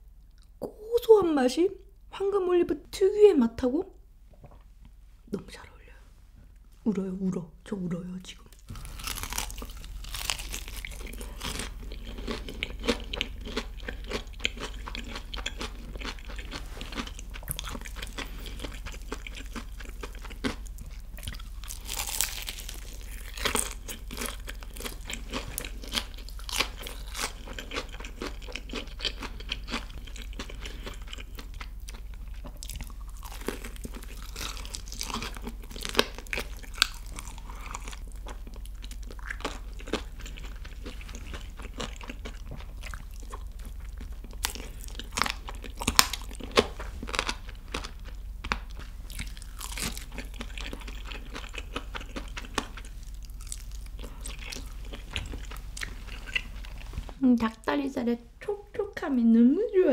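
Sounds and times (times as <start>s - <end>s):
crunching fried chicken: 8.7s - 56.8s.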